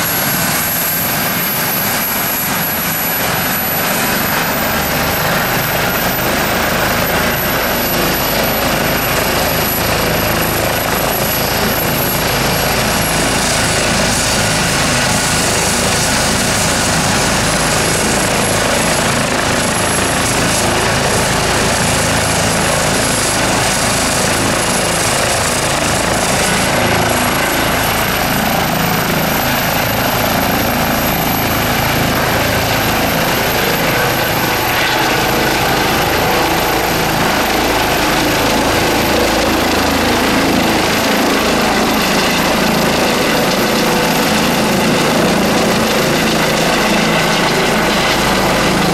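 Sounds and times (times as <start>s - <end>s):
helicopter engines and rotor: 0.0s - 48.9s.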